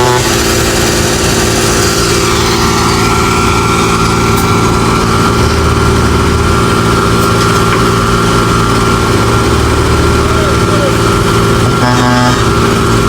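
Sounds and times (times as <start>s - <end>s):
heavy machinery engine running: 0.0s - 13.0s
thin steady whine: 0.0s - 13.0s.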